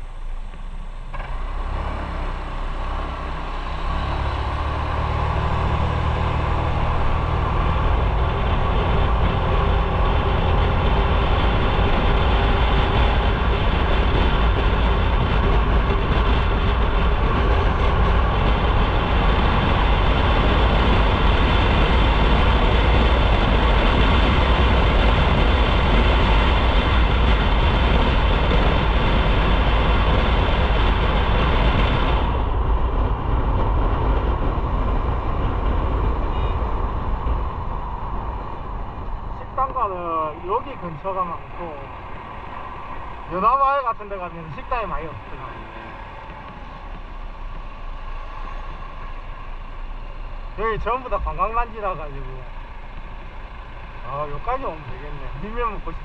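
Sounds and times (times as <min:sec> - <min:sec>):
motorcycle engine rumble: 0:00.0 - 0:56.0
wind noise on microphone: 0:00.0 - 0:56.0.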